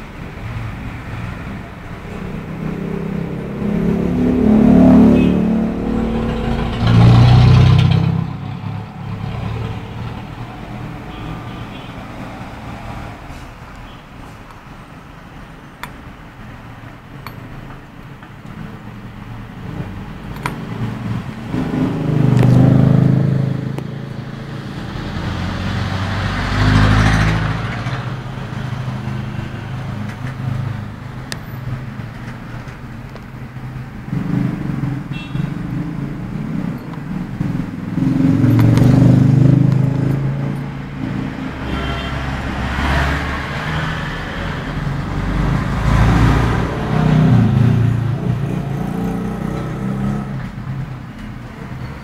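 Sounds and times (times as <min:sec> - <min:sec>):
motor vehicles passing: 0:00.0 - 0:52.0.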